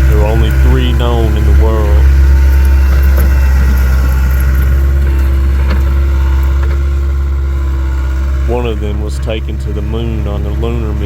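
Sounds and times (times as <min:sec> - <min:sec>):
skid steer engine droning: 0:00.0 - 0:11.0.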